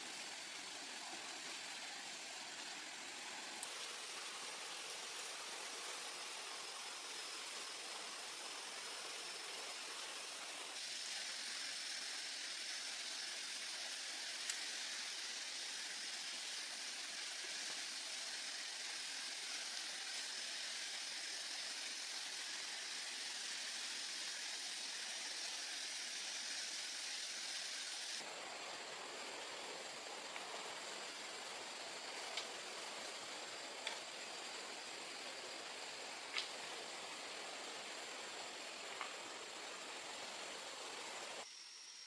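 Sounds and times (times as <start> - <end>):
jungle ambience hiss: 0.0 - 42.0.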